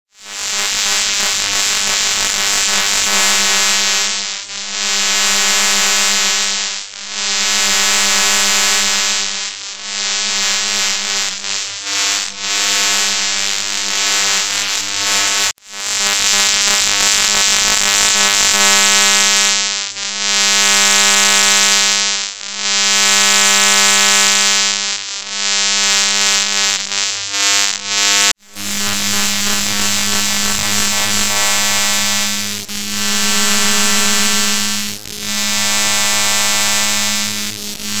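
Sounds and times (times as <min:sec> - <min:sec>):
buzzing electric hum: 0:00.2 - 0:38.0.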